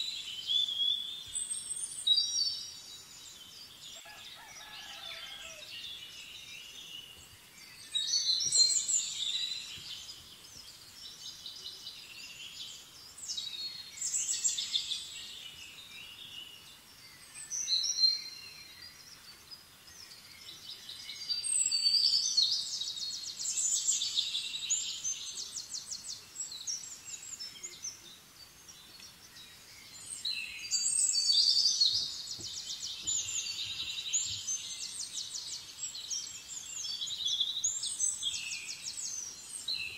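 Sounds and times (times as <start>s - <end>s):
birds calling with trills: 0.0s - 11.5s, 17.1s - 39.9s.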